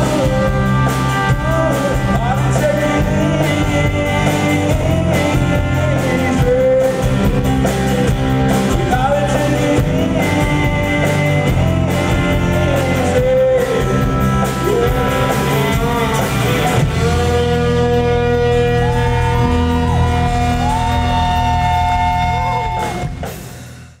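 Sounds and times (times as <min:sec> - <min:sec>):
person singing: 0:00.0 - 0:23.2
live rock band playing: 0:00.0 - 0:24.0.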